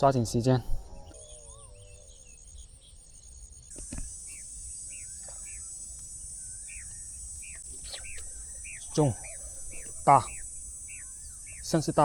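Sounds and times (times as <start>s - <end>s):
bird chirping: 0.0s - 12.0s
insects trilling: 0.0s - 12.0s.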